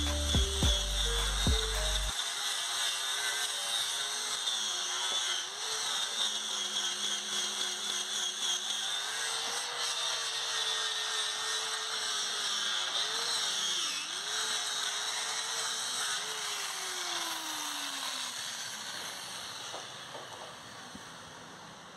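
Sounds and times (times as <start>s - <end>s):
angle grinder polishing metal: 0.0s - 21.8s.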